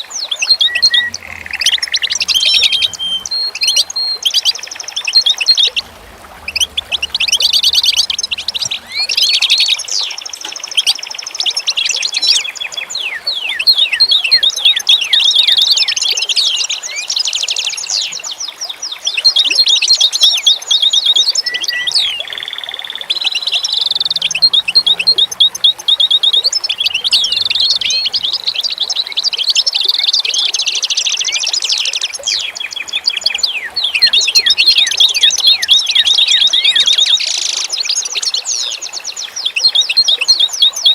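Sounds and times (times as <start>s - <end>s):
many small birds chirping: 0.0s - 40.9s.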